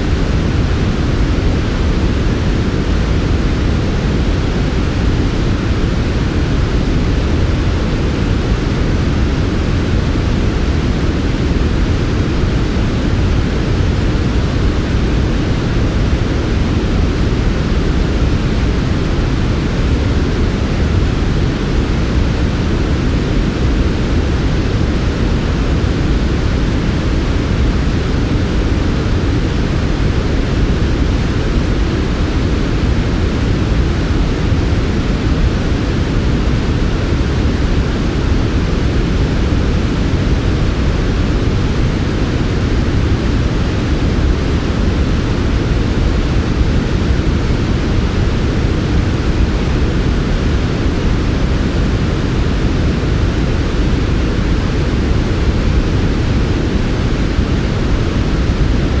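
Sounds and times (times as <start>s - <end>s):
low white noise: 0.0s - 59.0s.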